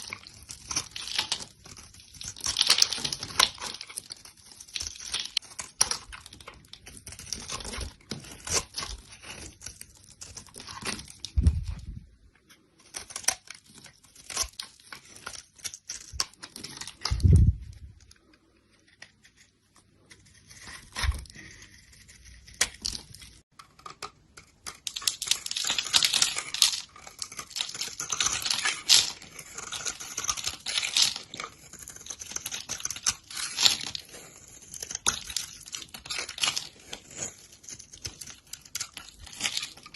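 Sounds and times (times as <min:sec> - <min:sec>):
knife cutting dry soap: 0:00.0 - 0:17.3, 0:18.1 - 0:39.9.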